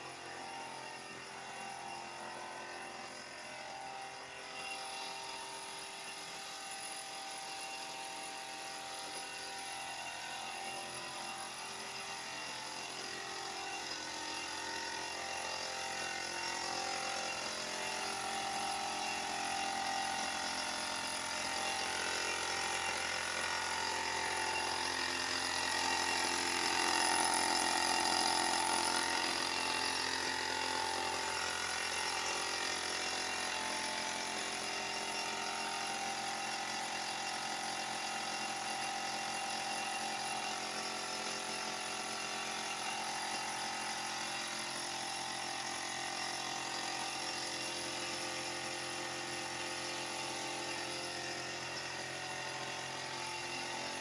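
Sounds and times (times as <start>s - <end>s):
air compressor running: 0.0s - 54.0s.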